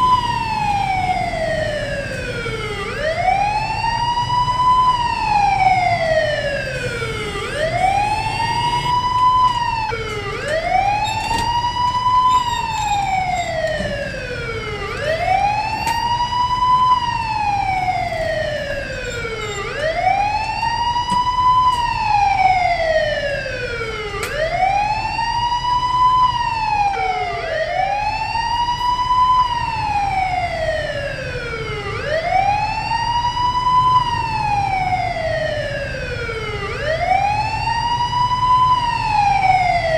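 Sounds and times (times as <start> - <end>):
fire truck siren wailing: 0.0 - 39.9.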